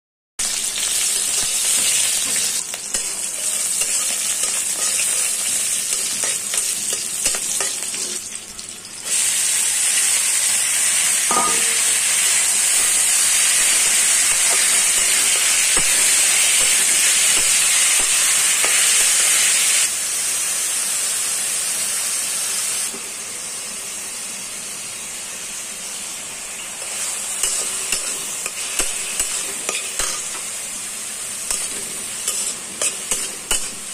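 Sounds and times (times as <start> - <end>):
vegetables sizzling in hot oil: 0.4 - 33.9.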